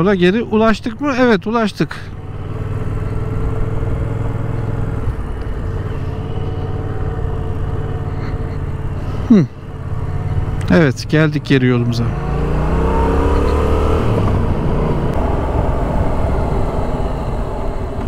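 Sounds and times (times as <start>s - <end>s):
motorcycle engine running: 1.9s - 18.0s.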